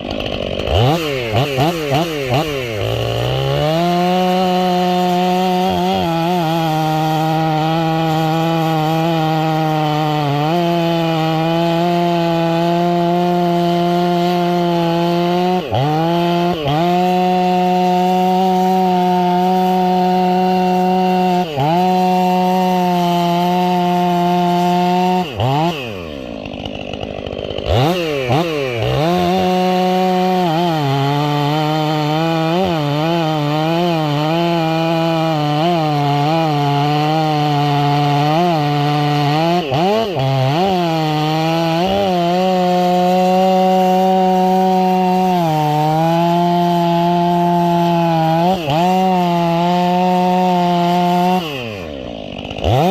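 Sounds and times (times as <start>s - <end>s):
chainsaw running at high revs: 0.0s - 52.9s.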